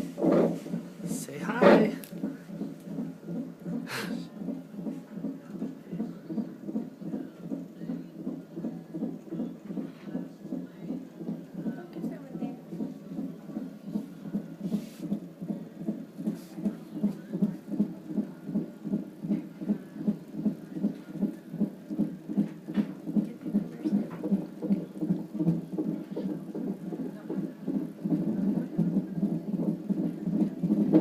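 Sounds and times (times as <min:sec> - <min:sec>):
fetal heartbeat whooshing pulse: 0:00.0 - 0:31.0.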